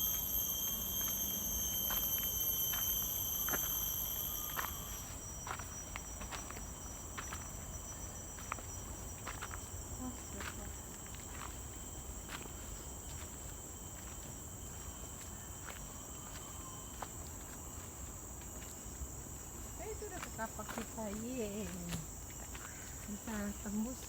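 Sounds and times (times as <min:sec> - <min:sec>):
footsteps on dirt path: 0:00.0 - 0:23.5
insects droning: 0:00.0 - 0:24.0.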